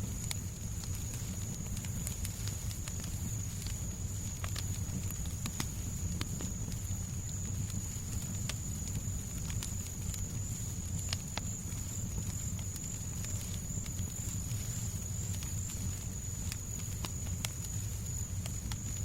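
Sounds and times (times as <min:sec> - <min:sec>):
fire crackling and popping: 0:00.0 - 0:19.0
low rumble and hiss: 0:00.0 - 0:19.0.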